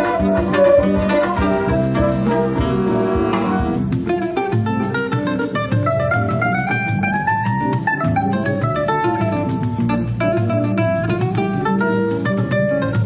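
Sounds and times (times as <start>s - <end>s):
instrumental music with plucked guitar: 0.0s - 13.0s.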